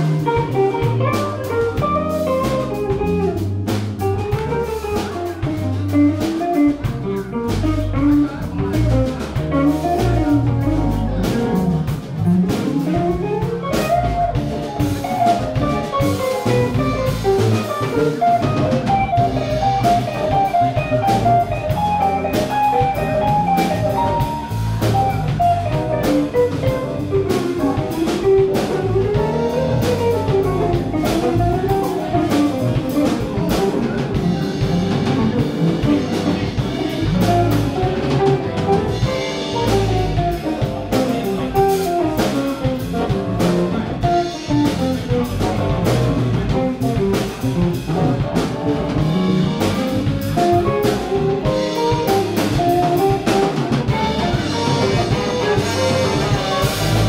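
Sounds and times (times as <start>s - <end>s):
jazz-funk band playing: 0.0s - 57.0s.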